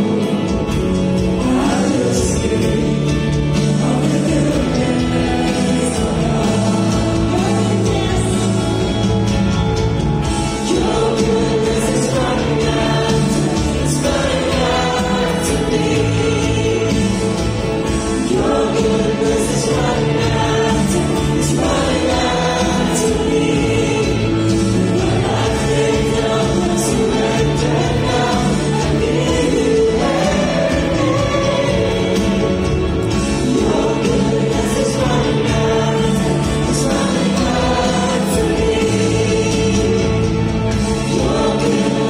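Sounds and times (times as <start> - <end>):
band accompaniment: 0.0 - 42.0
choir and congregation singing: 0.0 - 42.0.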